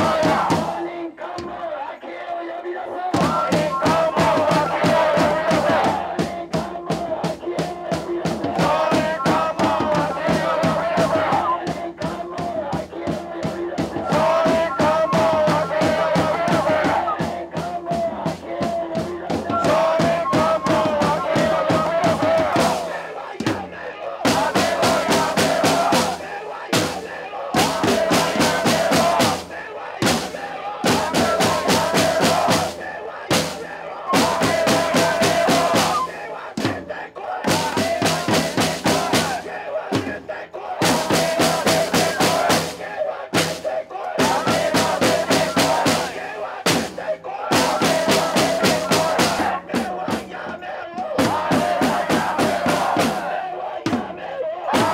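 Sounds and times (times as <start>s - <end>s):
drums beating: 0.0s - 2.2s, 3.0s - 54.9s
chant shouted through megaphones: 0.0s - 54.9s
crowd chanting: 0.0s - 54.9s.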